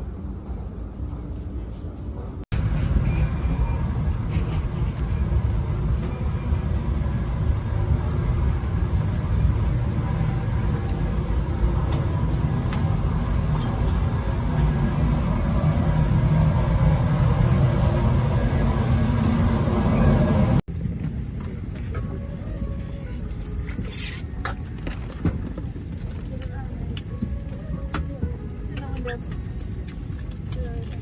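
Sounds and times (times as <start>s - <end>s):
vehicle rumble from inside: 0.0s - 31.0s.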